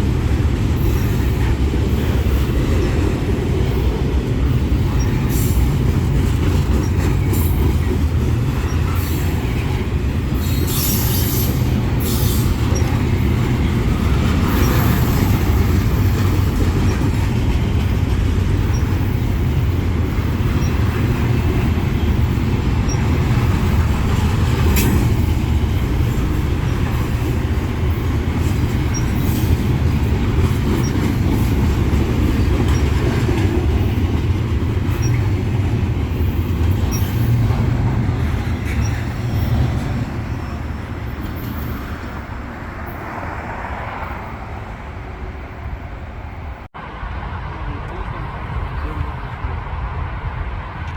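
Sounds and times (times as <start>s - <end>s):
freight train rumbling past: 0.0s - 50.9s.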